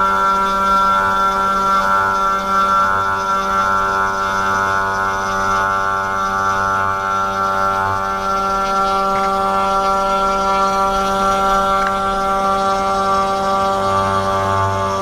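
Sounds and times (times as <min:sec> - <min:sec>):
router spindle cutting wood: 0:00.0 - 0:15.0.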